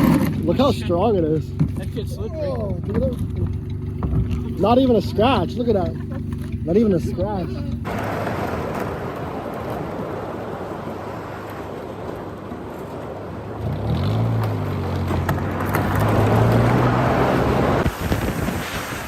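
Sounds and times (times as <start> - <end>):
car engine accelerating: 0.0 - 18.5
traffic: 0.0 - 19.0.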